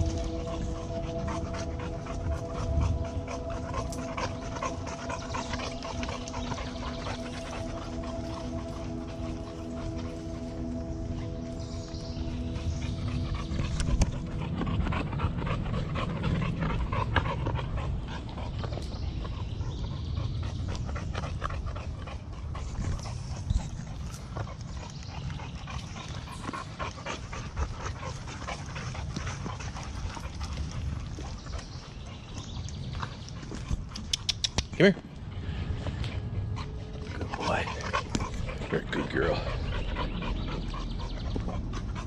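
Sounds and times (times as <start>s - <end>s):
low rumble: 0.0s - 34.2s, 35.0s - 42.0s
dog panting: 0.0s - 42.0s.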